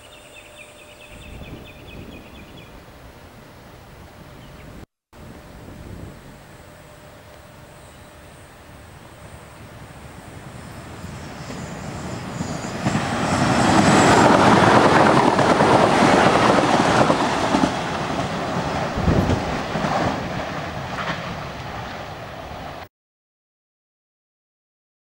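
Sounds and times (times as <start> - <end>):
electric train passing: 0.0 - 22.9.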